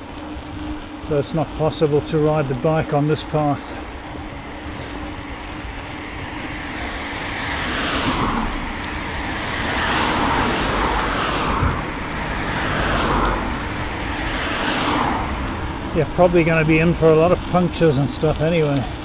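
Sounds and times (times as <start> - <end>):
cars passing on a road: 0.0 - 19.0.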